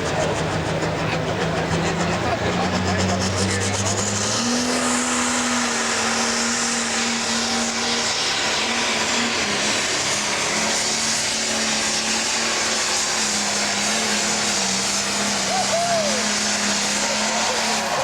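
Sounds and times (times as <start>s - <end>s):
diesel engine running hard: 0.0s - 18.0s.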